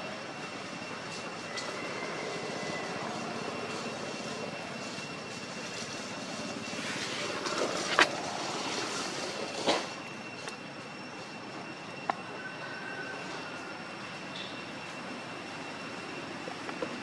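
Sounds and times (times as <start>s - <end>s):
steady outdoor rushing noise: 0.0s - 17.0s.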